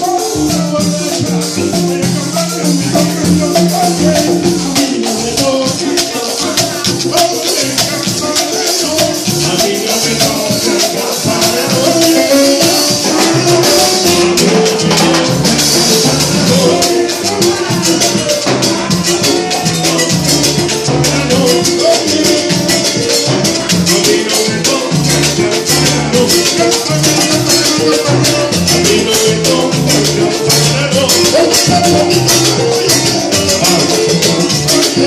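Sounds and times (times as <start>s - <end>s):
bass line: 0.0s - 35.0s
salsa band playing: 0.0s - 35.0s
shaker rhythm: 0.0s - 35.0s.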